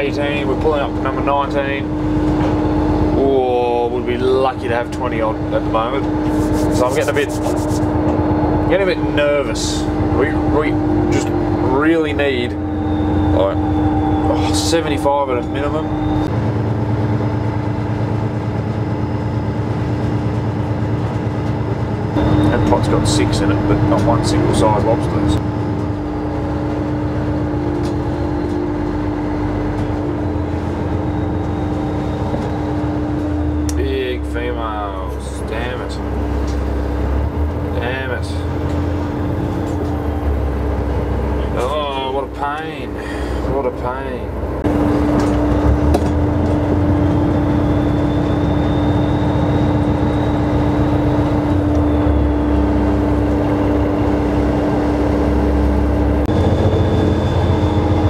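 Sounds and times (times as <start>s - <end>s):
boat engine and machinery humming: 0.0s - 58.0s.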